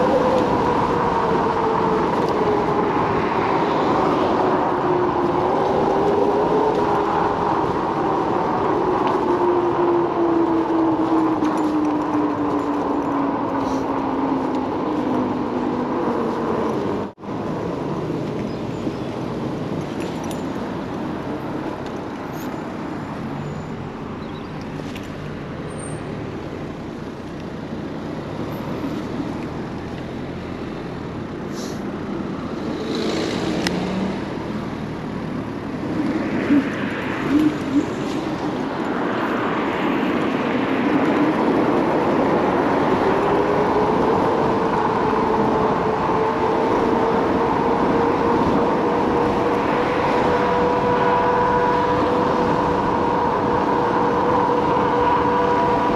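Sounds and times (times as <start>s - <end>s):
wind and tyre noise: 0.0s - 55.9s.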